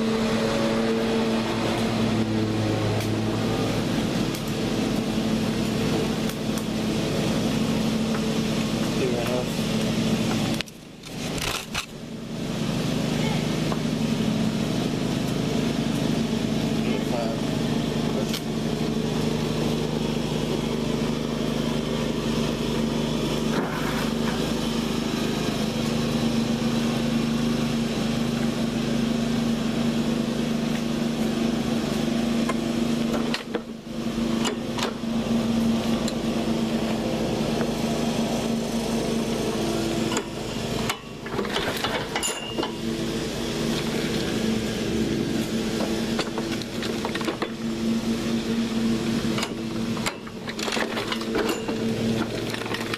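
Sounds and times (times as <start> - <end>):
lawn mower engine running: 0.0 - 52.9.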